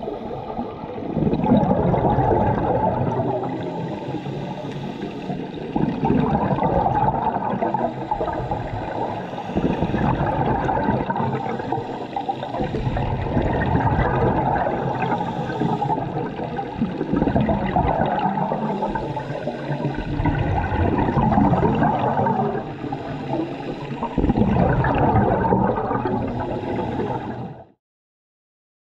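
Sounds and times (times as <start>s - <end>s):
underwater bubbles gurgling: 0.0s - 27.8s.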